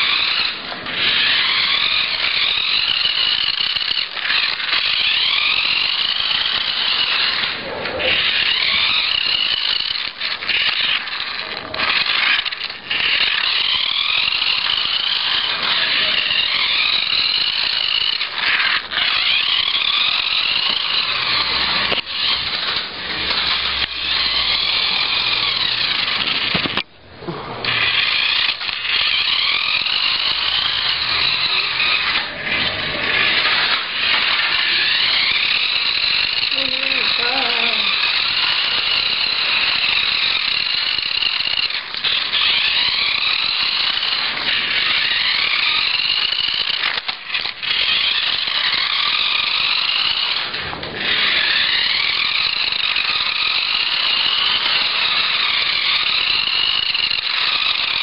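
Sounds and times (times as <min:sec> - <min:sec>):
toy car electric motor whining: 0:00.0 - 0:58.0.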